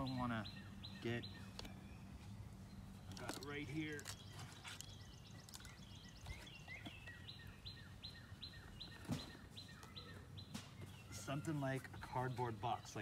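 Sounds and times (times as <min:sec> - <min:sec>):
songbird singing repeated notes: 0:00.0 - 0:13.0.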